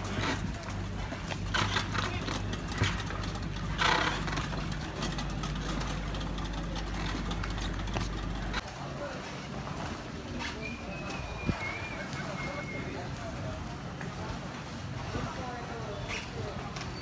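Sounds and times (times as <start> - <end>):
outboard motors humming: 0.0 - 17.0.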